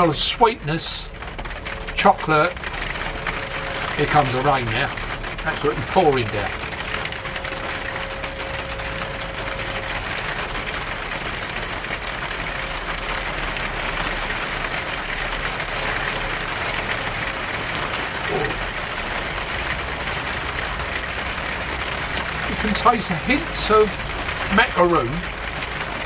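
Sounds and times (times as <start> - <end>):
heavy rain on a shed: 0.0 - 26.0.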